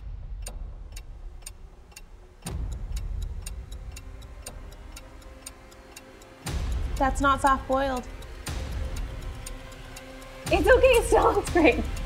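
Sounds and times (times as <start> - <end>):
clock-like ticking: 0.0 - 12.0.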